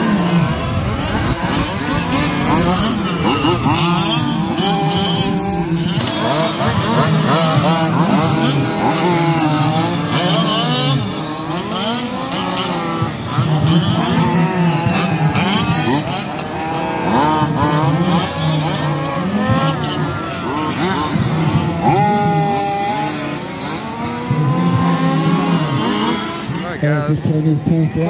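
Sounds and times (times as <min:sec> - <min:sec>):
rc car engines revving: 0:00.0 - 0:28.0.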